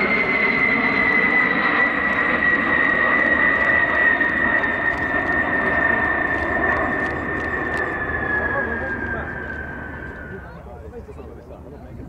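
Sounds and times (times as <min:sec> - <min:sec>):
jet bomber flying past: 0:00.0 - 0:12.0.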